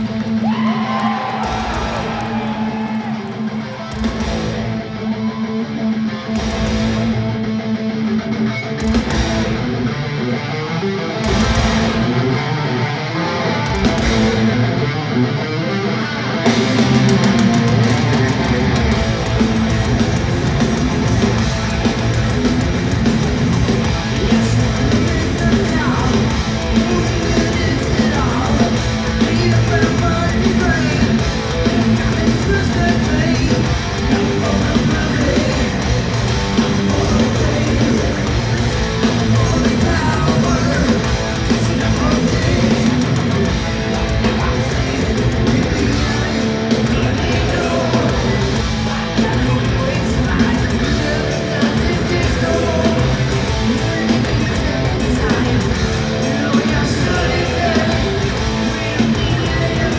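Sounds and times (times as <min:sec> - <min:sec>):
drums: 0:00.0 - 0:59.9
electric guitars: 0:00.0 - 0:59.9
heavy metal band playing live: 0:00.0 - 0:59.9.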